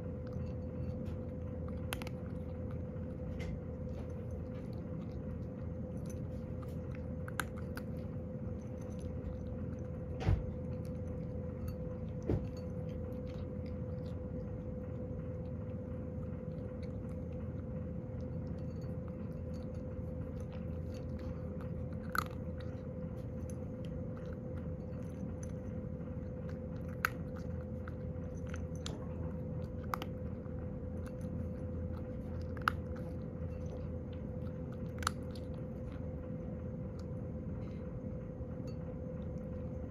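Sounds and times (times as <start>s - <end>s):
cat crunching dry kibble: 0.0s - 39.9s
steady hum: 0.0s - 39.9s.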